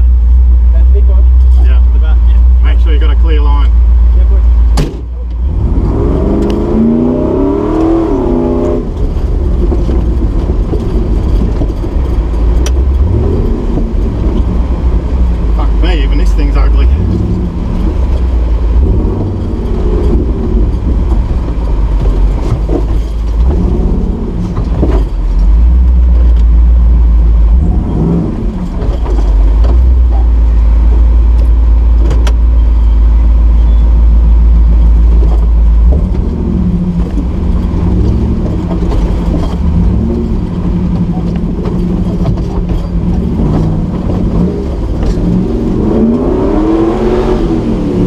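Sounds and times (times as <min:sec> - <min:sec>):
knocks and rattles of truck: 0:04.6 - 0:07.0, 0:07.7 - 0:48.0.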